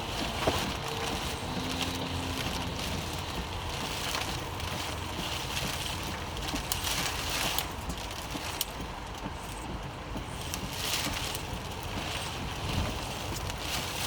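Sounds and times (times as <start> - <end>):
road noise inside vehicle: 0.0 - 14.0
wind noise: 0.0 - 14.0.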